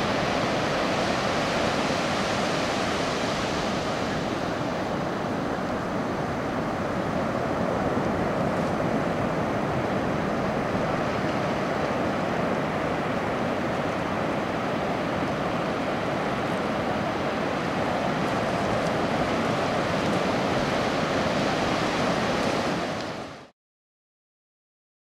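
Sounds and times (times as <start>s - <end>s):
sea surf breaking on beach: 0.0s - 23.5s.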